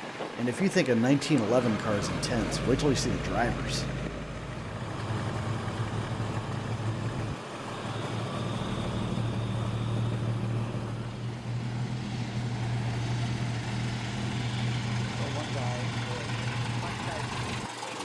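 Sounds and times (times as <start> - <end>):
car engine idling: 0.2 - 18.0.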